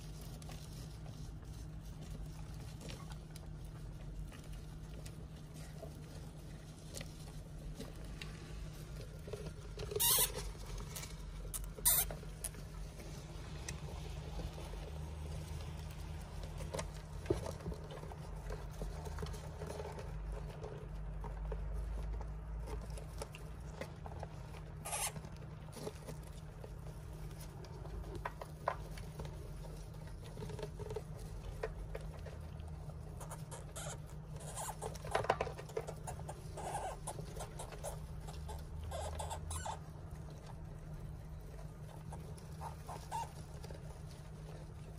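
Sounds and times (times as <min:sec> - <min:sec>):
hamsters rustling through bedding: 0:00.0 - 0:44.9
steady low hum: 0:00.0 - 0:44.9.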